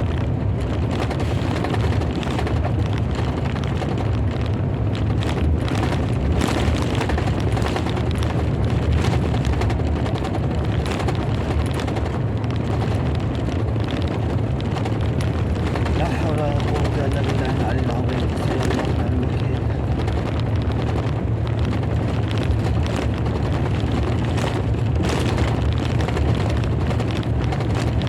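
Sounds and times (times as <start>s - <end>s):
faint crackles: 0.0s - 28.0s
thunder rumbling: 0.0s - 28.0s.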